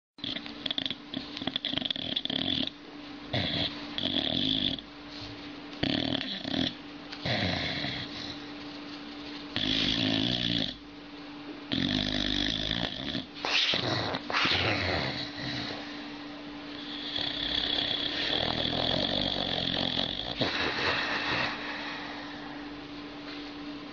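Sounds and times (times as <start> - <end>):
dog snoring: 0.2 - 4.9, 5.8 - 8.5, 9.5 - 10.8, 11.7 - 22.7.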